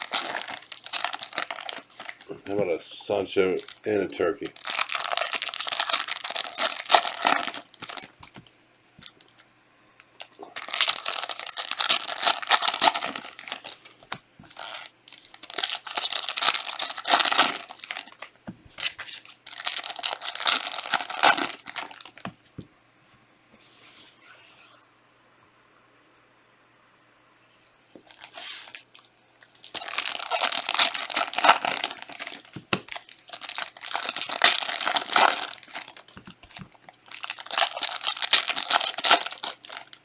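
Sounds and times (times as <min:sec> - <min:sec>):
wrappers tearing and crinkling: 0:00.0 - 0:09.4, 0:10.0 - 0:22.3, 0:28.1 - 0:40.0.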